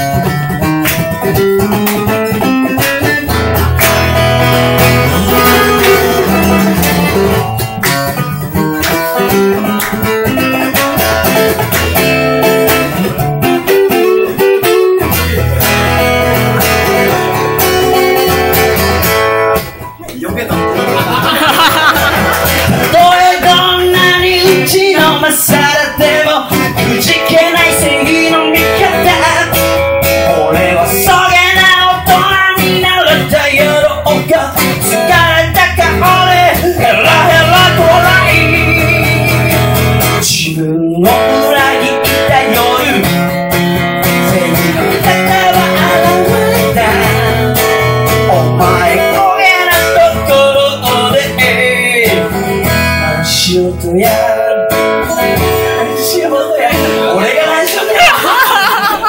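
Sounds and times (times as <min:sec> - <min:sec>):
acoustic guitar strumming: 0:00.0 - 0:59.0
man singing: 0:02.2 - 0:07.7, 0:09.2 - 0:19.0, 0:19.8 - 0:59.0.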